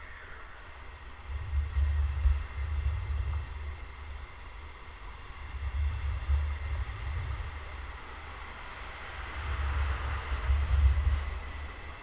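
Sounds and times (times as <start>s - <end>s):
train rolling past: 0.0s - 12.0s
wind buffeting microphone: 0.3s - 12.0s.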